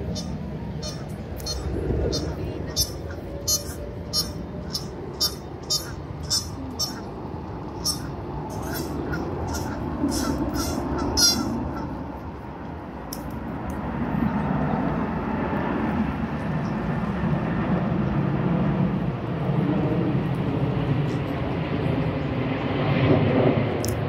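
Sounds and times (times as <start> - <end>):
passing aircraft drone: 0.0 - 24.0.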